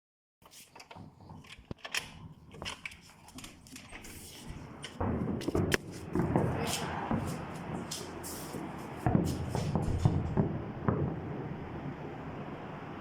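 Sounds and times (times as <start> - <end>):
fireworks popping and cracking: 1.0 - 12.0.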